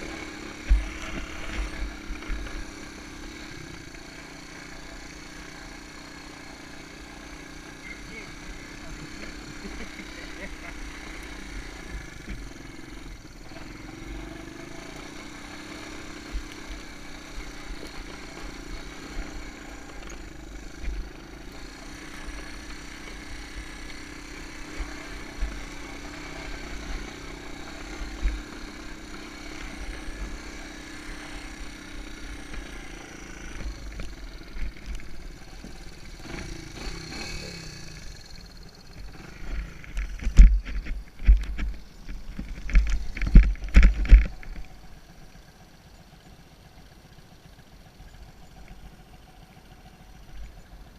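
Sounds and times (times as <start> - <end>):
small engine running: 0.0 - 50.9.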